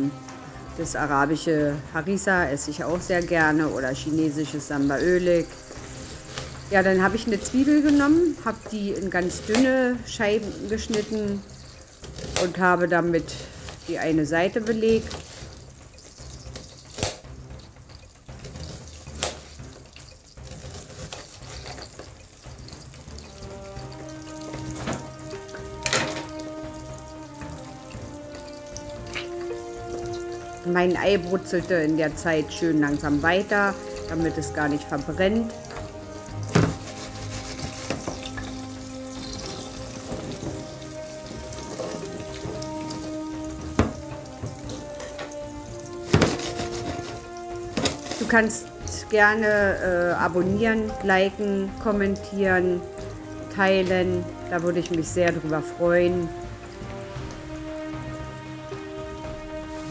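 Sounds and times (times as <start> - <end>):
eggs sizzling in frying pan: 0.0 - 59.9.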